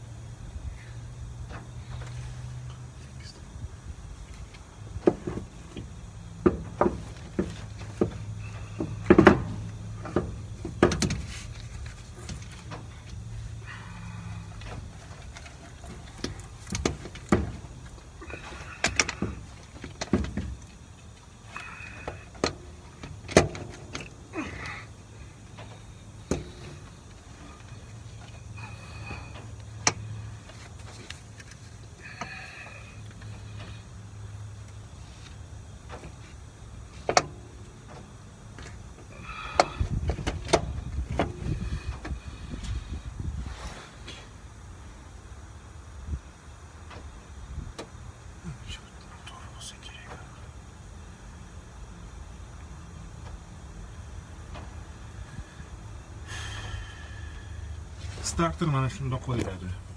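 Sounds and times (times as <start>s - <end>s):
low handling rumble: 0.0s - 59.9s.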